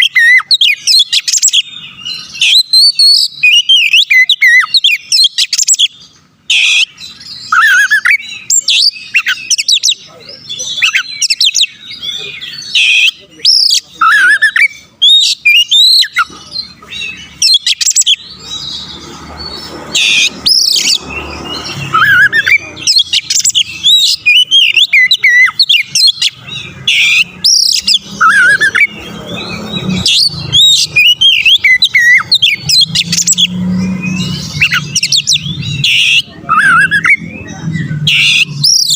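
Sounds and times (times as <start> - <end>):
bird singing whistled song: 0.0 - 38.9.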